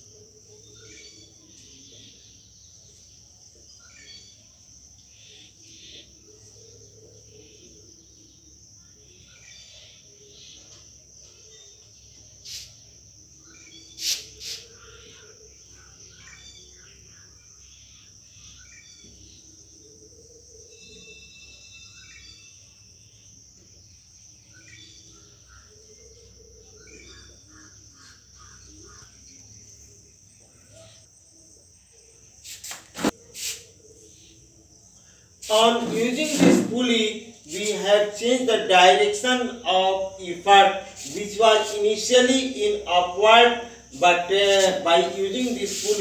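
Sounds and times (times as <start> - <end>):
bird chirps: 0.0 - 46.0
insect chirring: 0.0 - 46.0.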